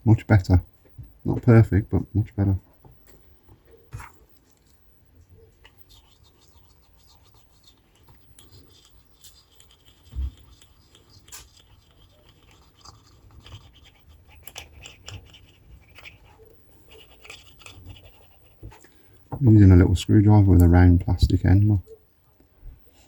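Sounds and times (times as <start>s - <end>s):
faint scratching and clicks: 2.4s - 23.0s.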